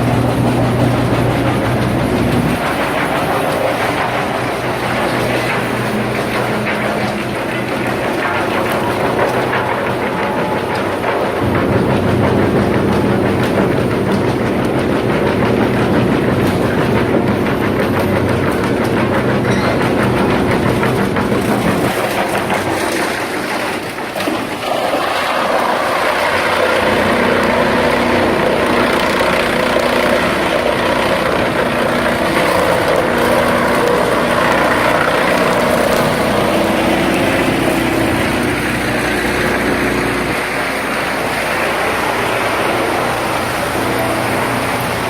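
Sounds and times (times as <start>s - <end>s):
wood chipper machinery humming: 0.0s - 45.0s.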